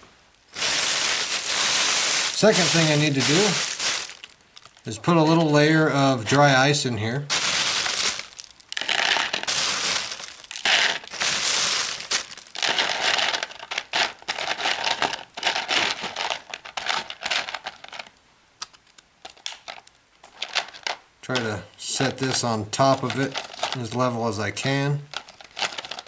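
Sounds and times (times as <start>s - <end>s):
pellets clattering on plastic: 0.5s - 5.9s, 7.3s - 18.1s, 19.2s - 26.0s
plastic bag crinkling: 0.5s - 5.9s, 7.3s - 18.2s, 18.8s - 26.0s.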